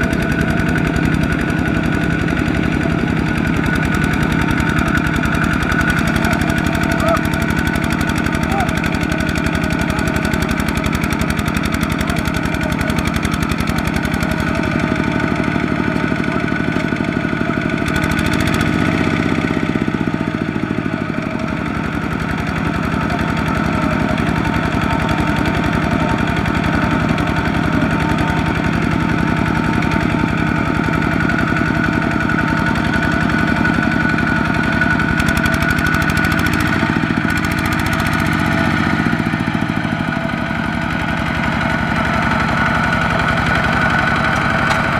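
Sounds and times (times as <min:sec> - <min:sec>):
diesel engine knocking: 0:00.0 - 0:44.9.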